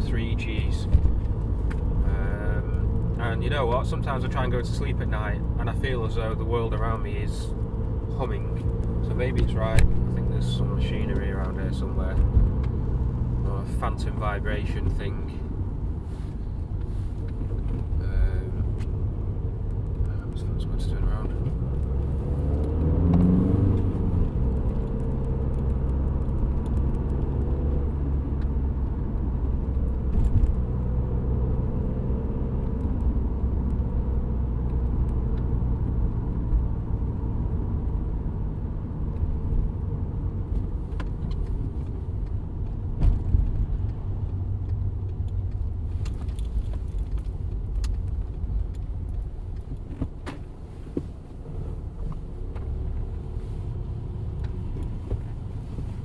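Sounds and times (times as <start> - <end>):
diesel engine drone: 0.0 - 56.0
road noise: 0.0 - 56.0.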